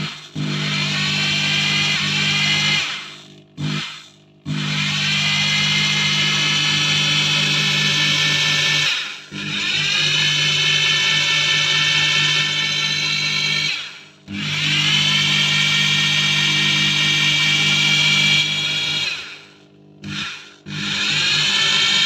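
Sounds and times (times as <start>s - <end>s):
rotary hammer whining: 0.0s - 22.0s.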